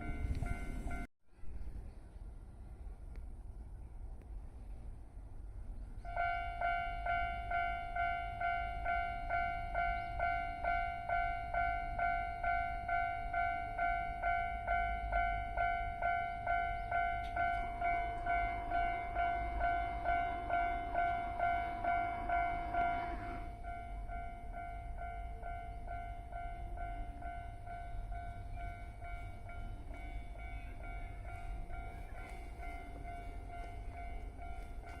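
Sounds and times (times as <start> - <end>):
level crossing warning bell: 0.0 - 1.1, 6.1 - 35.0.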